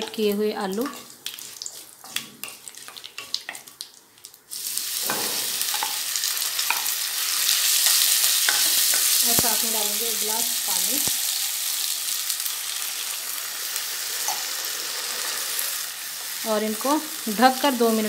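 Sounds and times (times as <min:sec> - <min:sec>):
potato sizzling in oil: 0:00.0 - 0:18.0
seeds crackling in hot oil: 0:00.0 - 0:18.0.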